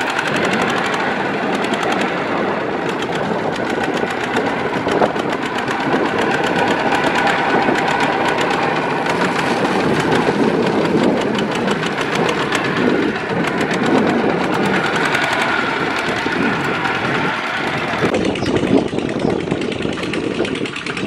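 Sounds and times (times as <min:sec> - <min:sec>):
diesel engine knocking steadily: 0:00.0 - 0:21.0.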